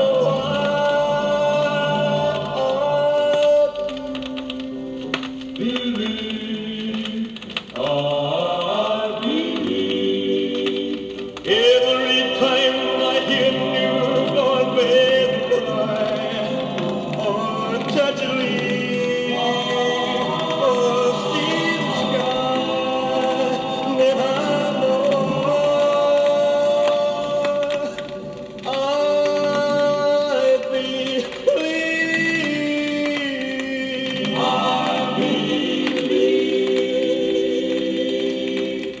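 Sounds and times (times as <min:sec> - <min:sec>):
choir singing wordless chords: 0:00.0 - 0:39.0.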